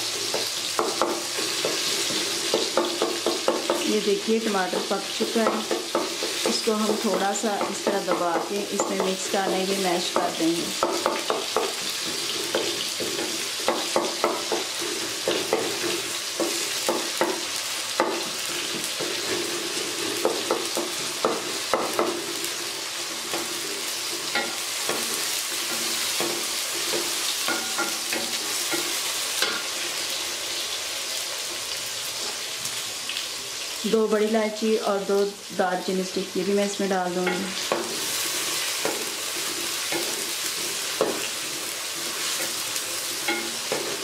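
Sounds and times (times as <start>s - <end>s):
onions sizzling in hot oil: 0.0s - 44.0s
wooden spatula scraping a pan: 0.1s - 3.8s, 4.7s - 29.8s, 37.2s - 44.0s.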